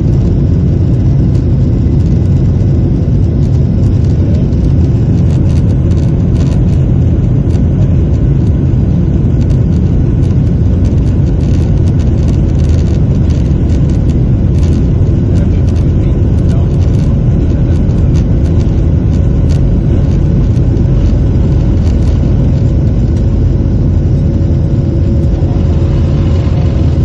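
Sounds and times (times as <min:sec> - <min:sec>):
jet engines rumbling in cabin: 0:00.0 - 0:27.0
faint ticks and rattles: 0:00.2 - 0:08.6, 0:09.2 - 0:27.0.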